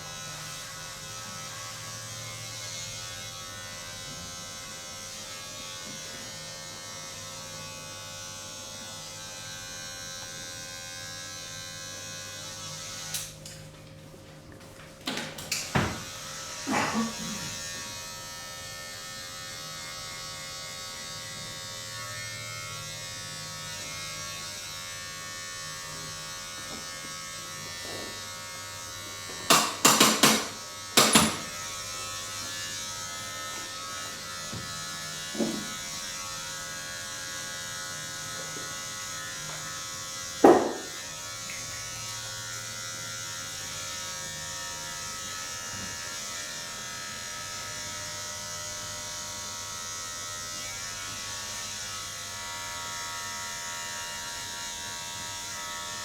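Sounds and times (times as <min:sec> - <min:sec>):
electric appliance buzzing: 0:00.0 - 0:13.9, 0:15.0 - 0:56.0.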